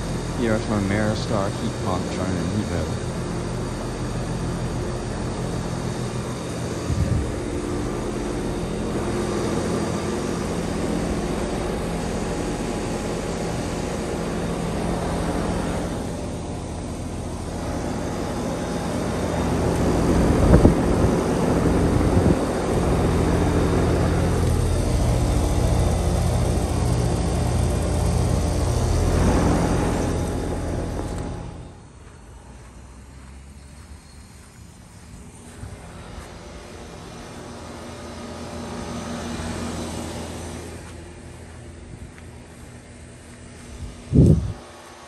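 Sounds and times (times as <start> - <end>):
heat pump compressor hum: 0.0 - 45.0.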